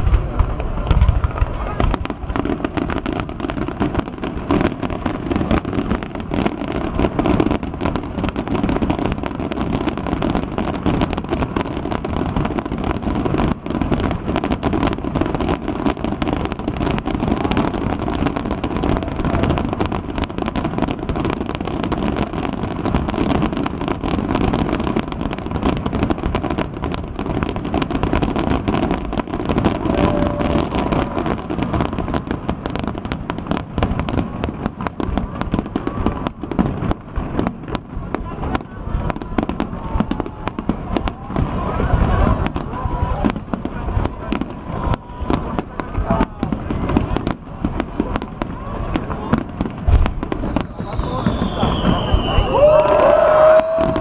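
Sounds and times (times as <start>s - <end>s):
fireworks banging and crackling: 0.0s - 54.0s.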